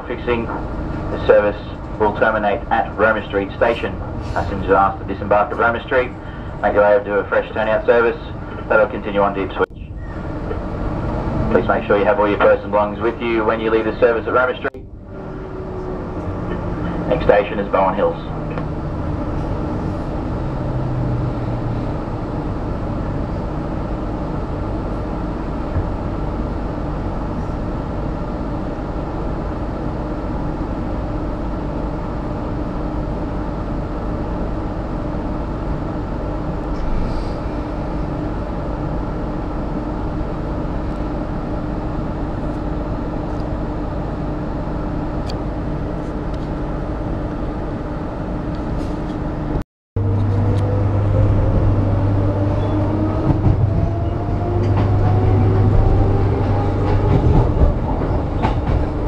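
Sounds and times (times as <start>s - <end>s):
train running hum: 0.0s - 59.0s.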